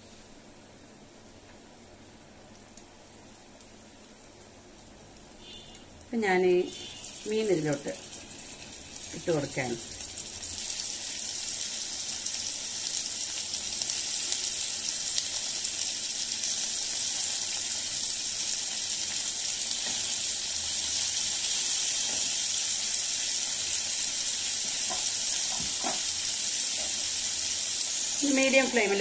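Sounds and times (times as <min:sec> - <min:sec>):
fish sizzling in hot oil: 0:02.7 - 0:29.0.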